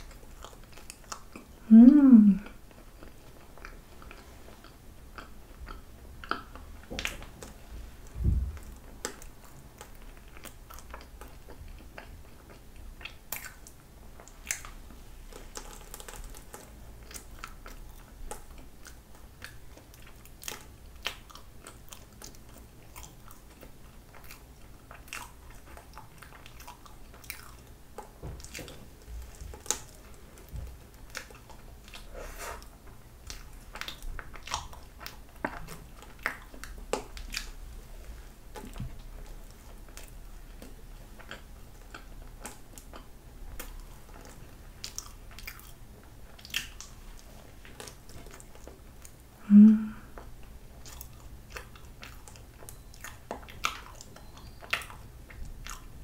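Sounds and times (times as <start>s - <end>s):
biting and chewing: 0.0s - 1.6s, 2.4s - 49.3s, 50.2s - 56.0s.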